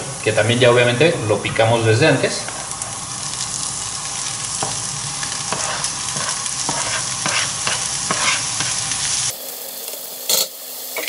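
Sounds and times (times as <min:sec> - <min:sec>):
bacon sizzling in a frying pan: 0:00.0 - 0:11.0.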